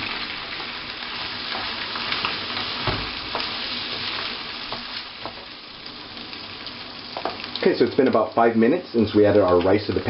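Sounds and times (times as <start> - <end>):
rice sizzling in a pan: 0.0 - 10.0.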